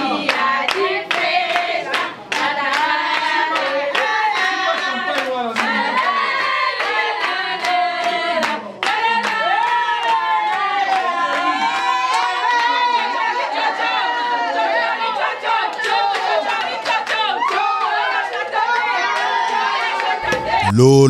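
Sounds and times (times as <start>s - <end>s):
group of people singing: 0.0s - 9.6s, 13.0s - 21.0s.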